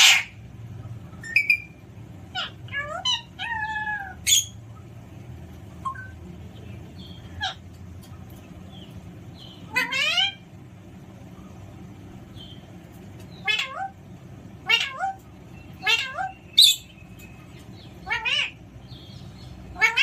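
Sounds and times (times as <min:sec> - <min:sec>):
parrot calling: 0:00.0 - 0:04.9, 0:05.7 - 0:06.2, 0:06.9 - 0:07.8, 0:08.6 - 0:10.6, 0:12.3 - 0:20.0.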